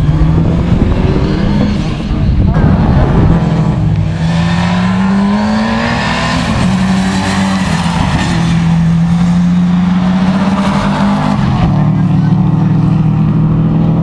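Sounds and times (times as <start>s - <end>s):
rally car engine passing by: 0.0s - 14.0s.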